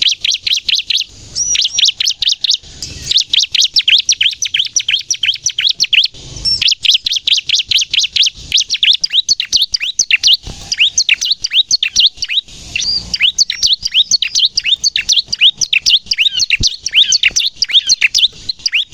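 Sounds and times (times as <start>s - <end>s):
bird sharp rapid chirps: 0.0s - 18.9s.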